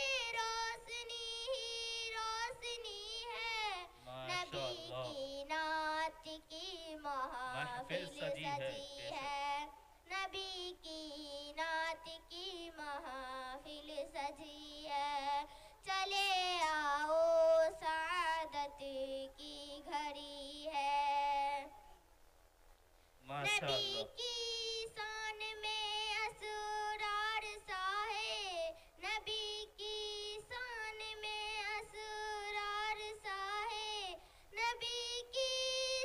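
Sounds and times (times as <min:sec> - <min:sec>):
girl singing into a microphone: 0:00.0 - 0:22.0, 0:23.4 - 0:36.0.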